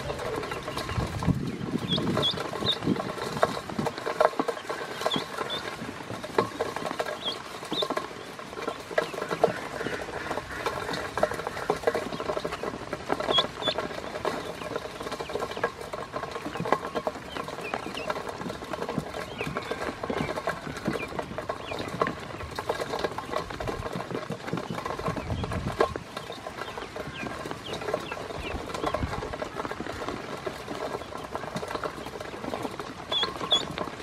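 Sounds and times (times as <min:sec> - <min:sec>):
bills pecking on metal bowl: 0:00.0 - 0:34.0
ducklings peeping: 0:00.0 - 0:34.0.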